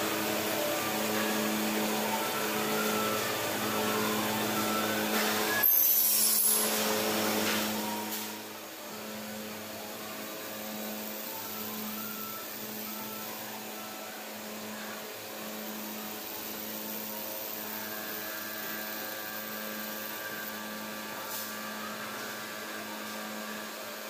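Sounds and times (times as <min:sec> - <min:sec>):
glass polishing machine humming: 0:00.0 - 0:24.0
high whine: 0:00.0 - 0:24.0.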